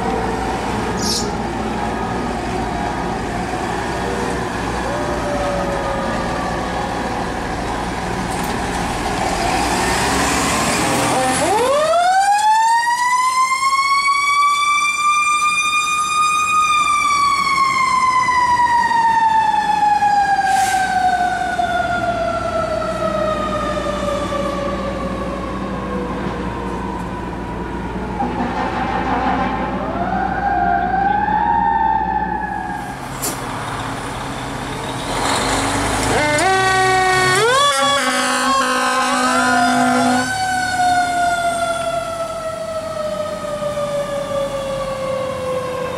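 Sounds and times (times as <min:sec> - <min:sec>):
diesel engine: 0:00.0 - 0:45.9
fire truck siren wailing: 0:00.0 - 0:45.9
street noise: 0:00.0 - 0:45.9.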